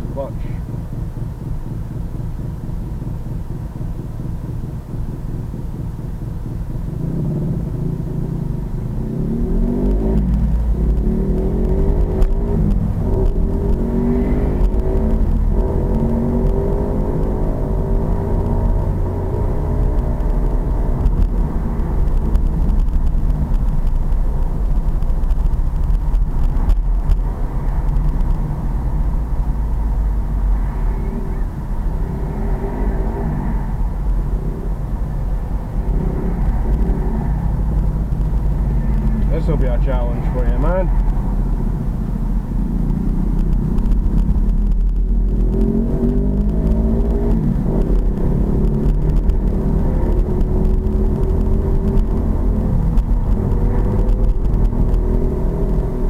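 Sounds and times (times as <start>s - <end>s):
heavy low rumble: 0.0s - 56.0s.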